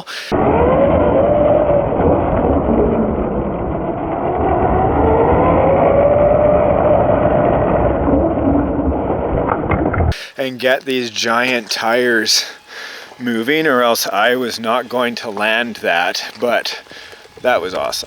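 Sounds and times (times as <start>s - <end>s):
electric motor whining: 0.0s - 10.2s, 10.9s - 18.0s
low drivetrain and tire rumble: 0.3s - 10.2s, 13.1s - 18.0s.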